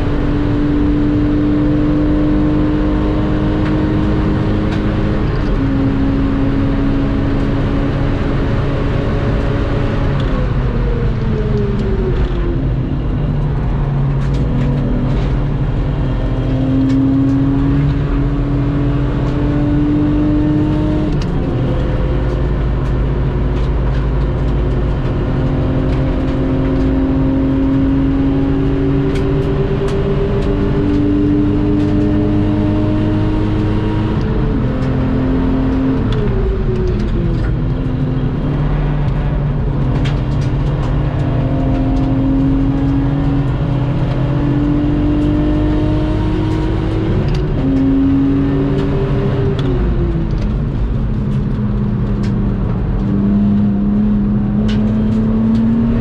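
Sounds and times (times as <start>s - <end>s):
car engine under hard driving: 0.0s - 56.0s.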